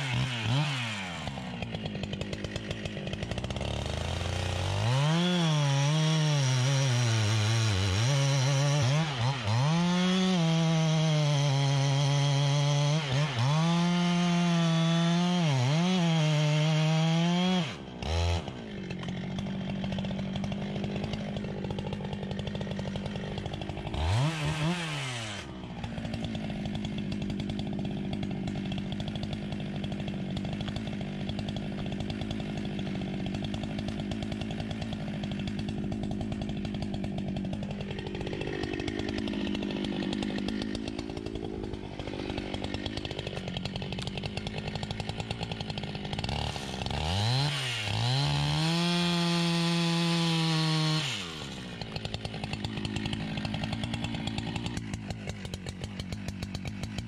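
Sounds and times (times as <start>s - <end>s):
chainsaw revving and idling: 0.0s - 57.0s.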